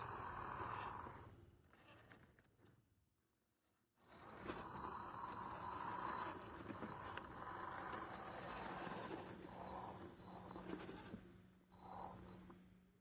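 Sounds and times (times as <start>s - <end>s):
small electric motor whine: 0.0s - 2.2s, 4.0s - 13.0s
drivetrain grinding hum: 0.0s - 2.8s, 3.6s - 13.0s.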